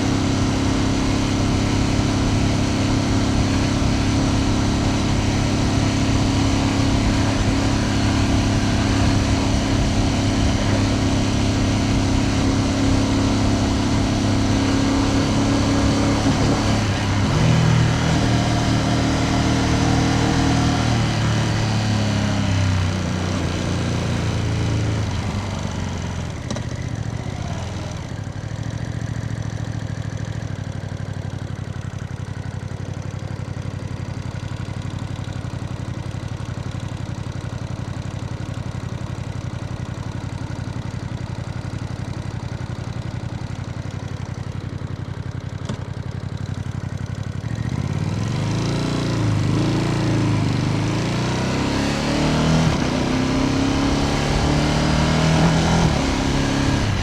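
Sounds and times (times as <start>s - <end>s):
motorcycle engine running and revving: 0.0s - 57.0s.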